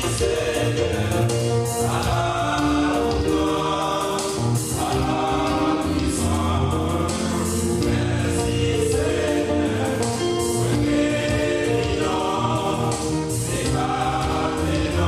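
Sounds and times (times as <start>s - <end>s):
male choir singing gospel: 0.0s - 15.0s.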